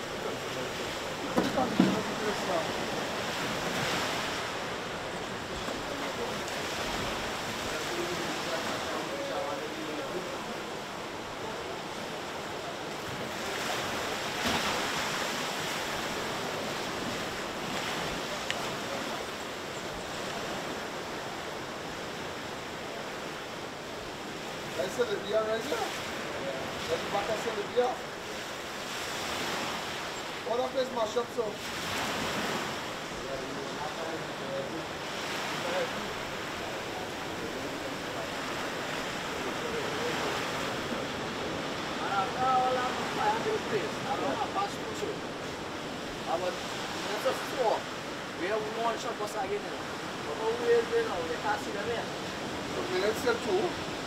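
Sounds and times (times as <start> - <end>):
sea waves washing against rocks: 0.0 - 54.0.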